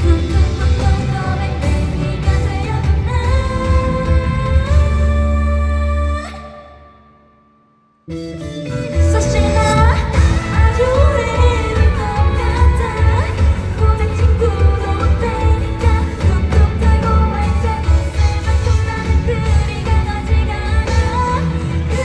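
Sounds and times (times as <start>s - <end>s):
live pop-rock band playing: 0.0s - 6.2s, 8.1s - 22.0s
woman singing: 0.0s - 7.2s, 8.8s - 22.0s.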